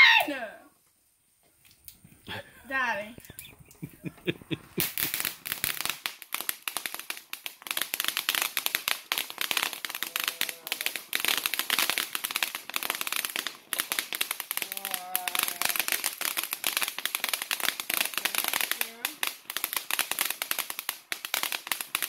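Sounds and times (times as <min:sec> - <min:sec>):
firework crackling with rapid pops: 0:01.6 - 0:22.0.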